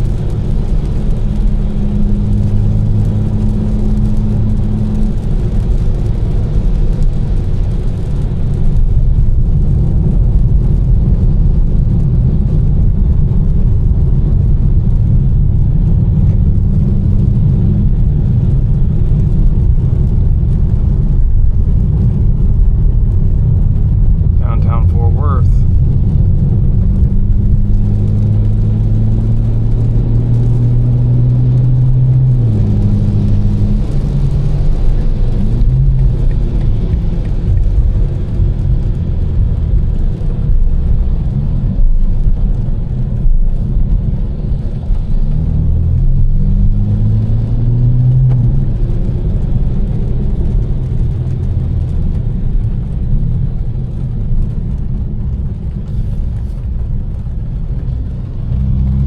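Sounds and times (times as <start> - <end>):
car engine accelerating: 0.0 - 59.0
road and tyre rumble: 0.0 - 59.0.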